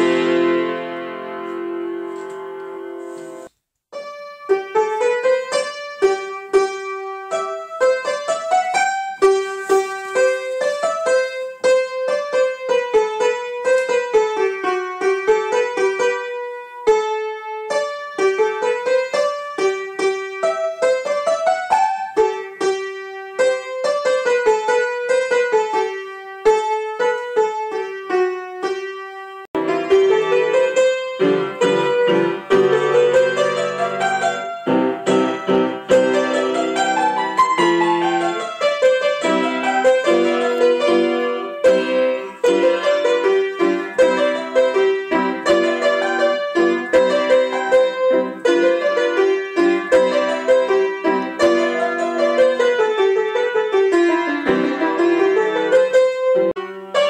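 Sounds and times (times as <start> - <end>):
low piano chords: 0.0 - 3.4, 4.0 - 57.0
piano melody: 0.0 - 57.0.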